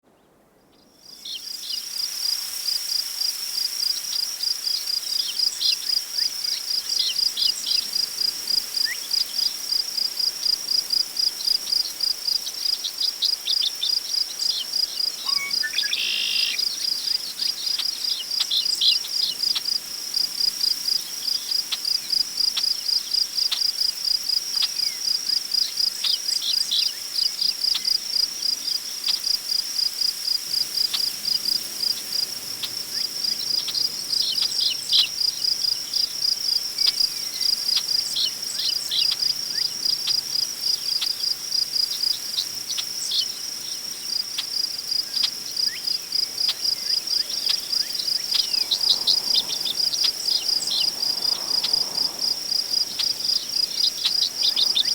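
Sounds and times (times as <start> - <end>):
wind in grass: 0.0 - 54.9
crickets chirping: 0.7 - 54.9.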